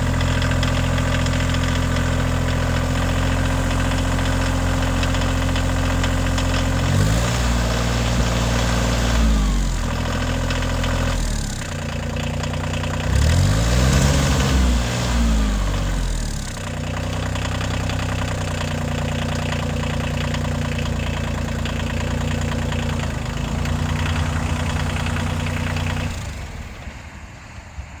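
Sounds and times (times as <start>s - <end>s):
tractor diesel engine revving: 0.0s - 27.2s.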